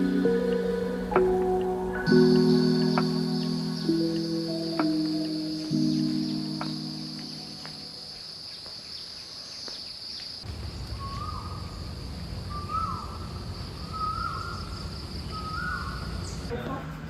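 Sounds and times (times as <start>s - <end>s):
bird calling: 0.0s - 8.2s, 10.8s - 16.6s.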